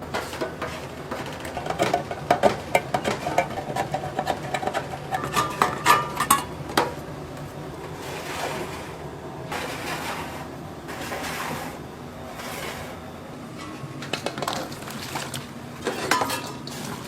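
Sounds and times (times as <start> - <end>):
utensils and trays clinking: 0.0 - 7.0, 7.9 - 17.0.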